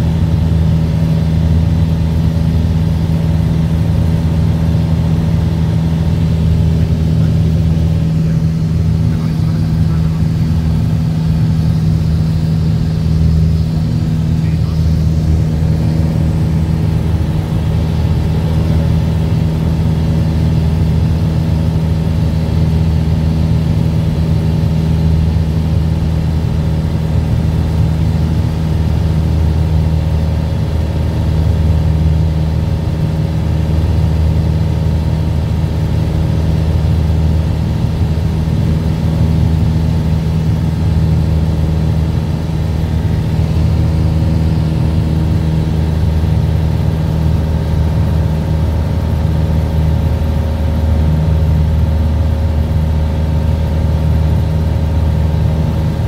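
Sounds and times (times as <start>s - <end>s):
aircraft engine droning: 0.0s - 56.0s.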